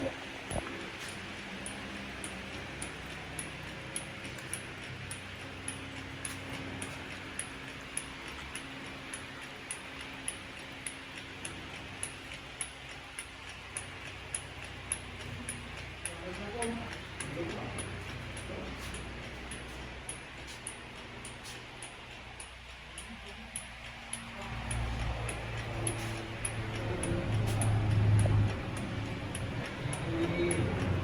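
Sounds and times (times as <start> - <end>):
mechanical hum: 0.0 - 31.0
steady ticking: 0.0 - 31.0.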